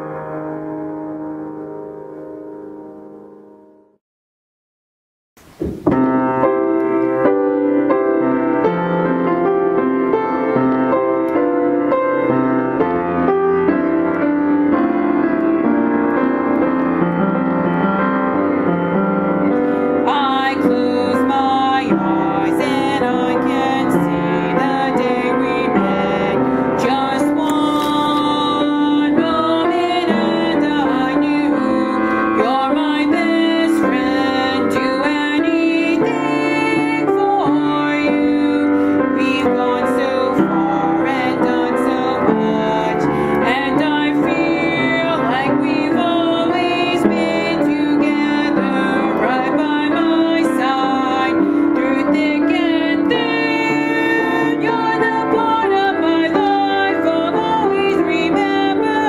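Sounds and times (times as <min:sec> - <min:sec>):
piano music: 0:00.0 - 0:04.0, 0:05.5 - 0:59.0.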